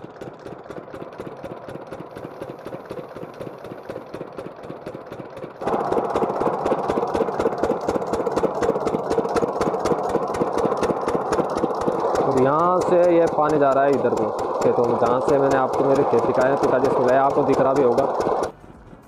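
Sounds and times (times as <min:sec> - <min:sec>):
diesel pump engine chugging: 0:00.0 - 0:19.0.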